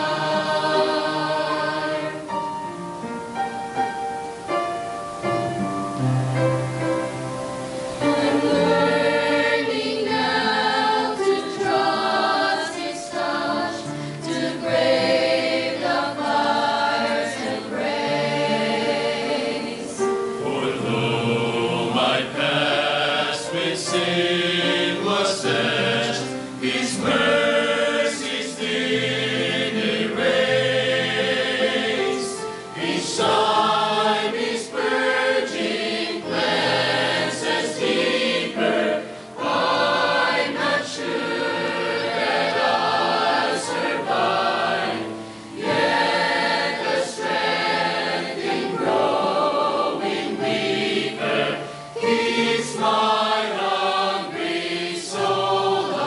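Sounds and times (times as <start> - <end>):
choir singing a hymn: 0.0 - 56.0
piano accompaniment: 0.0 - 56.0.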